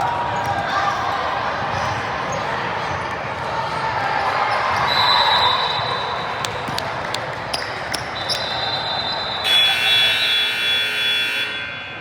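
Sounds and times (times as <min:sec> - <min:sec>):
gym and crowd noise: 0:00.0 - 0:12.0.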